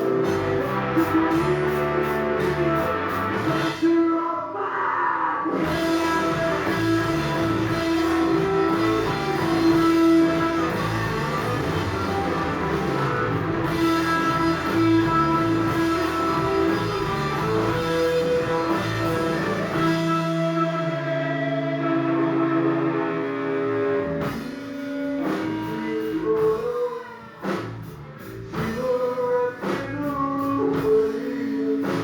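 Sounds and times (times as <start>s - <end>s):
ringing electric guitars: 0.0s - 3.9s, 5.5s - 29.0s
rock band playing instrumental: 0.0s - 3.9s, 5.5s - 32.0s
bass guitar: 0.0s - 4.2s, 5.5s - 32.0s.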